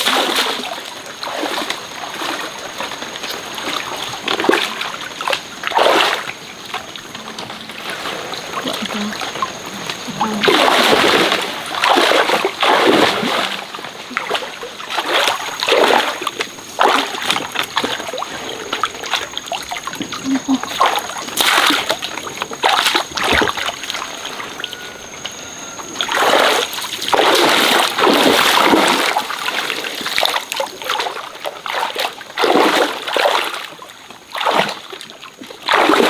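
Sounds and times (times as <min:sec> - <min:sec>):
water splashing: 0:00.0 - 0:36.0.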